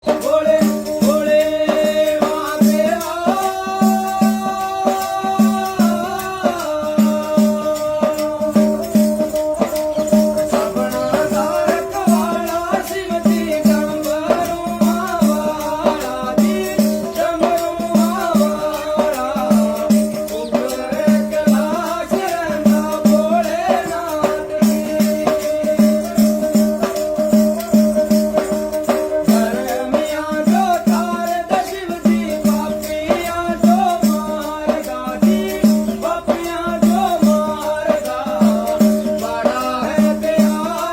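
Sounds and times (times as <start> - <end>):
rattling percussion: 0.0 - 40.9.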